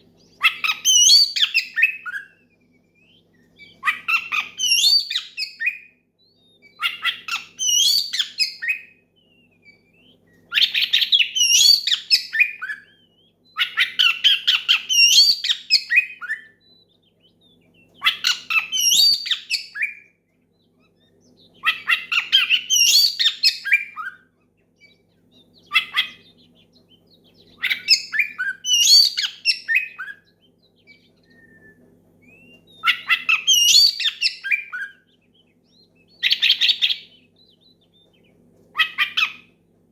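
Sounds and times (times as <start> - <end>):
songbird whistling and chattering: 0.0 - 39.6
faint steady hum: 0.0 - 39.9.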